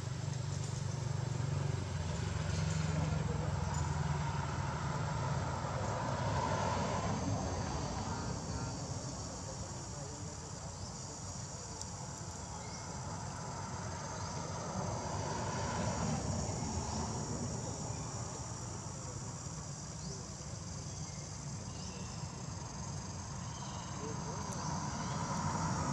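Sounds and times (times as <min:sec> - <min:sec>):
faint insect buzz: 0:00.3 - 0:25.9.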